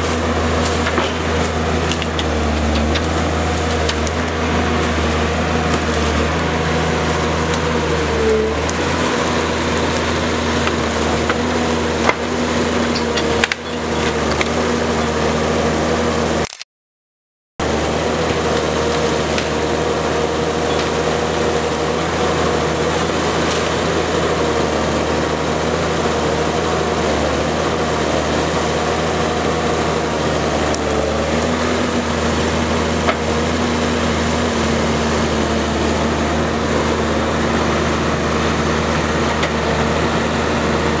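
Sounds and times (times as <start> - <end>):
tractor diesel engine running: 0.0 - 16.5, 17.6 - 41.0.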